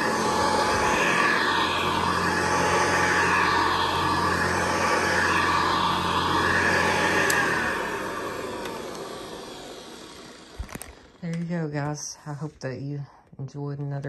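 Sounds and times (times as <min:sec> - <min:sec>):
motor whirring down: 0:00.0 - 0:11.7
vacuum cleaner running: 0:00.0 - 0:12.5.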